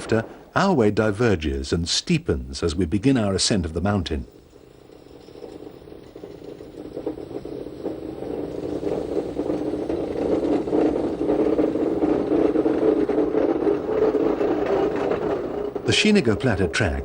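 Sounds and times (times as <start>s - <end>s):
electric train drone: 0.0s - 17.0s
train rattles and clatter: 0.0s - 17.0s.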